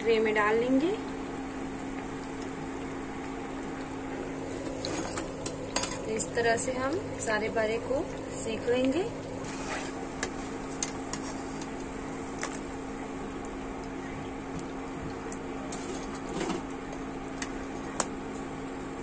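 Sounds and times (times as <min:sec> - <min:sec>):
hot oil sizzling: 0:00.0 - 0:18.3
steady low hum: 0:00.0 - 0:19.0.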